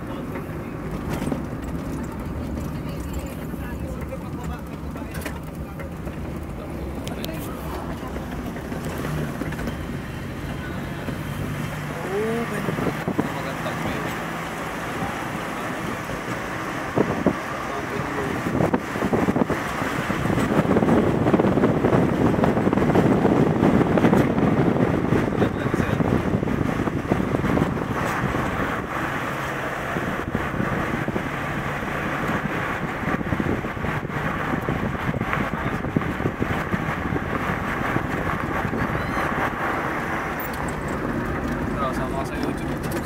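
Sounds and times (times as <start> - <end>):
vehicle rumble: 0.0 - 43.0
wind buffeting microphone: 0.3 - 43.0.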